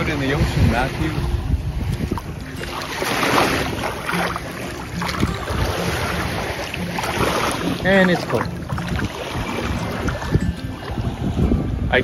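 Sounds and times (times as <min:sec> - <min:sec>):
wind rumble on microphone: 0:00.0 - 0:04.2, 0:04.8 - 0:12.0
feet splashing in shallow water: 0:00.4 - 0:11.4.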